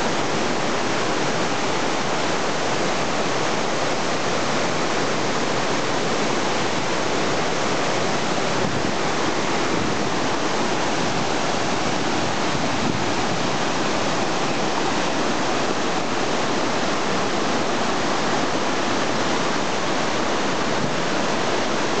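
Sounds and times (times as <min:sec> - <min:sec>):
water roaring over rocks: 0:00.0 - 0:22.0.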